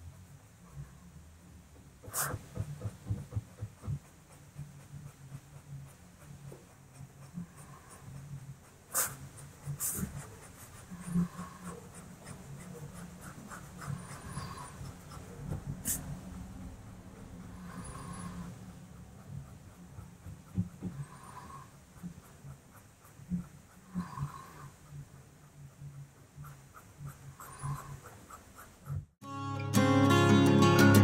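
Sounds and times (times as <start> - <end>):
rubber tip rubbing on paper: 2.0 - 29.2.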